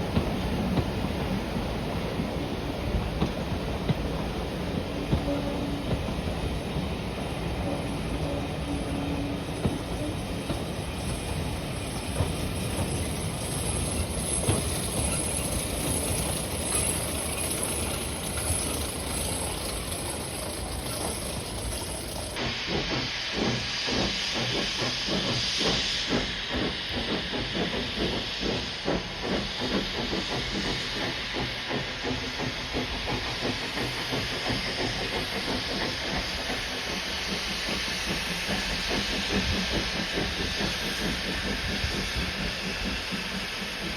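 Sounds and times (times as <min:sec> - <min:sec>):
steam locomotive hissing: 0:00.0 - 0:43.9.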